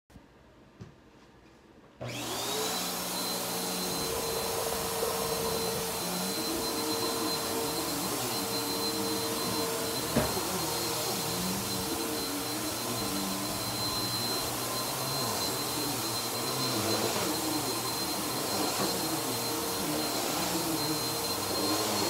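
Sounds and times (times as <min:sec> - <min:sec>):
vacuum cleaner motor running: 0:02.0 - 0:22.0.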